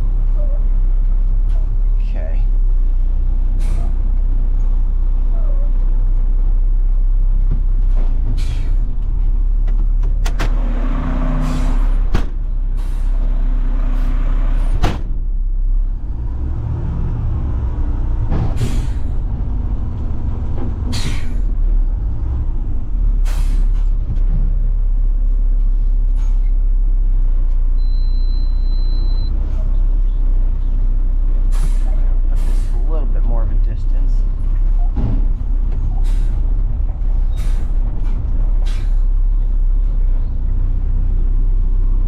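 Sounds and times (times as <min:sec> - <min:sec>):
diesel truck engine rumbling: 0:00.0 - 0:42.0.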